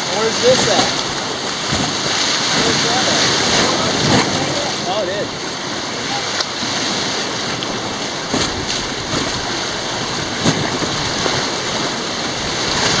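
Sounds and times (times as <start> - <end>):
water splashes: 0.0 - 13.0
whitewater rapids rushing: 0.0 - 13.0.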